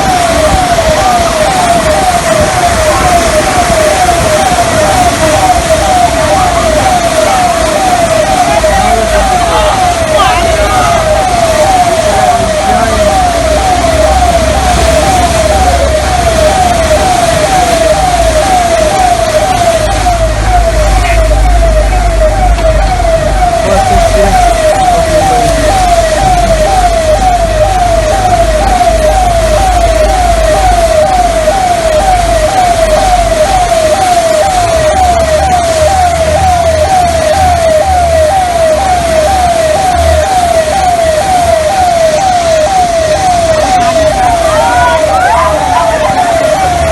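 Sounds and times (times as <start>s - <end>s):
electronic warning tone sweeping down: 0.0s - 46.9s.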